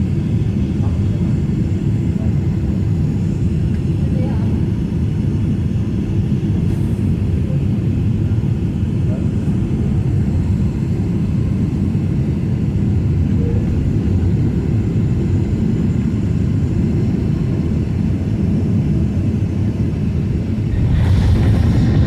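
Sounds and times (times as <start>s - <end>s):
airliner engines rumbling in cabin: 0.0s - 22.0s.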